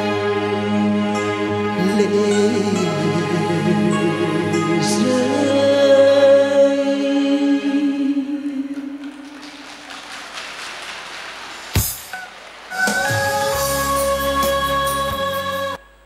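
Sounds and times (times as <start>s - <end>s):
backing track music: 0.0s - 16.0s.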